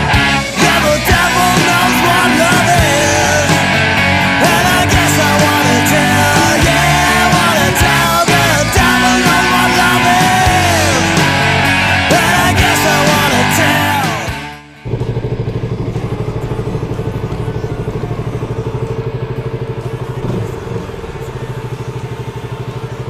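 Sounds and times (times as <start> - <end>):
motorcycle engine idling: 0.0 - 23.0
rock music with singing: 0.0 - 23.0.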